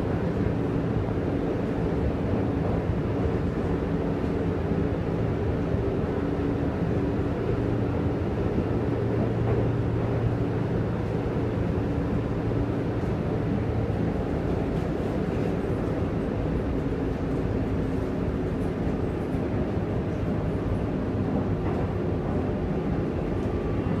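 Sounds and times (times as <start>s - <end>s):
train rumbling and rolling: 0.0s - 24.0s.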